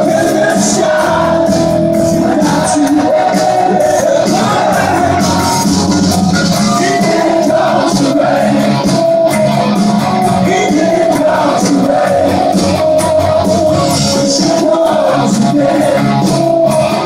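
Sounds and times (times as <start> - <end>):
distorted electric guitars: 0.0 - 17.0
steady drum beat: 0.0 - 17.0
vocals: 0.0 - 17.0.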